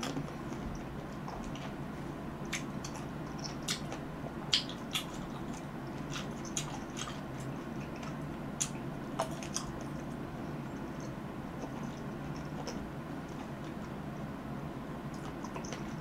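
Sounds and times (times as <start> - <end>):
wet mouth eating sounds: 0.0 - 14.1
steady low hum: 0.0 - 16.0.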